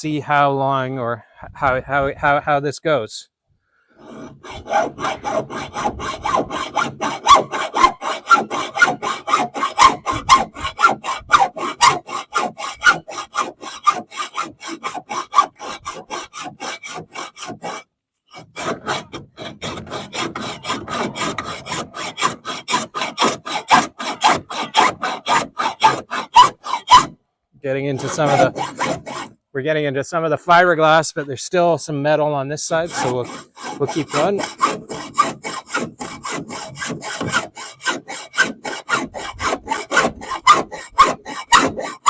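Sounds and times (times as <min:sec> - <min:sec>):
hand saw cutting metal: 0:04.0 - 0:27.2, 0:27.9 - 0:29.3, 0:32.7 - 0:42.0.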